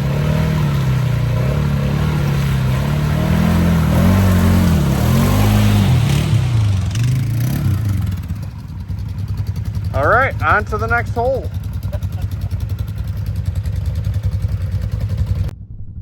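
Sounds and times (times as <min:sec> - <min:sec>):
atv engine revving: 0:00.0 - 0:15.5.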